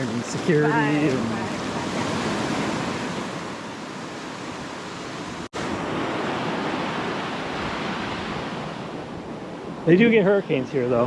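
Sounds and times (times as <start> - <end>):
ocean surf washing up beach: 0.0 - 11.0.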